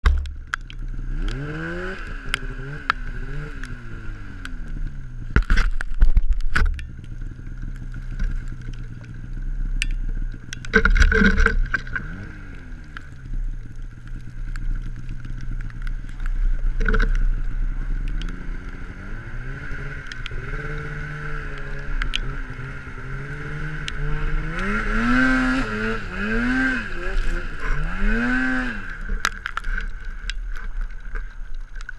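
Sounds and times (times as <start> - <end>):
snowmobile engine revving: 0.8 - 5.3, 6.9 - 14.0, 14.7 - 30.8.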